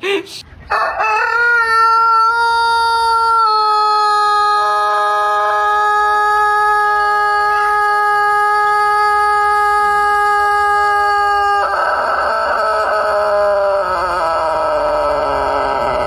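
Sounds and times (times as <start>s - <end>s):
rooster crowing: 0.7s - 16.0s.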